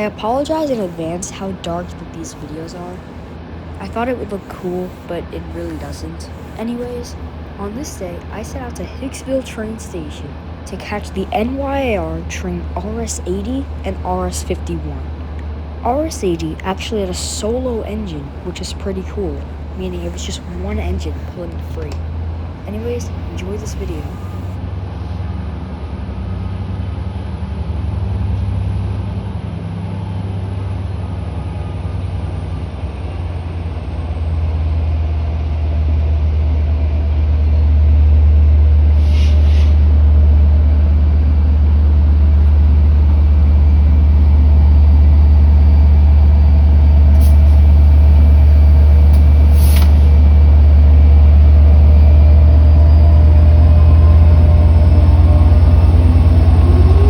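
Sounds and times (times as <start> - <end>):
diesel locomotive rumbling: 0.0 - 57.0.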